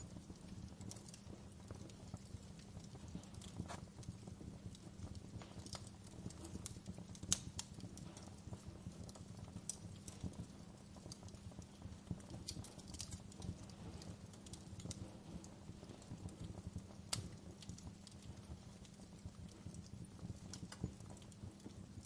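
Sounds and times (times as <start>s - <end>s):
fire crackling and popping: 0.0s - 22.0s
flames rumbling: 0.0s - 22.0s.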